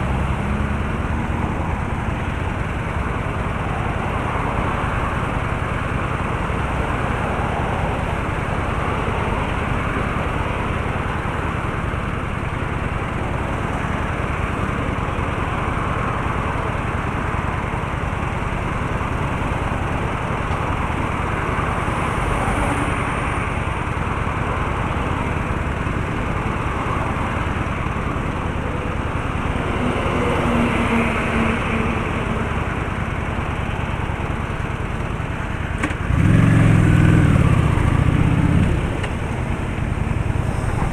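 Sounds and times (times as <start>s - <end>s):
road traffic noise: 0.0s - 40.9s.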